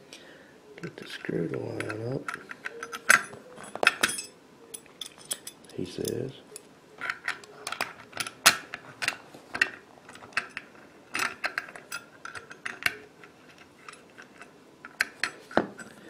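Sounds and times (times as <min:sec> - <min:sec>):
metal gun parts clicking: 0:01.8 - 0:16.0.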